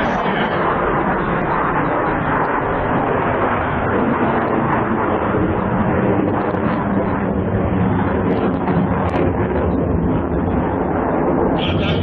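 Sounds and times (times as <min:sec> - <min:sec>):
jet engine roar overhead: 0:00.0 - 0:12.0.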